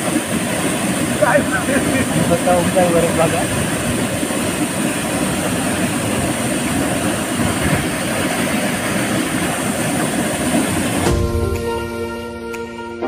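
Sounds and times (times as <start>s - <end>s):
waterfall roaring: 0.0s - 11.4s.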